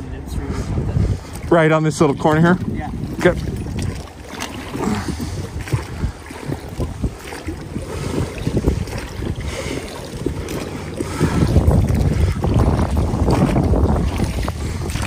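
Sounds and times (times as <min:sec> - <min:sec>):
wind rumbling on microphone: 0:00.0 - 0:15.0
water slapping against hull: 0:00.5 - 0:15.0.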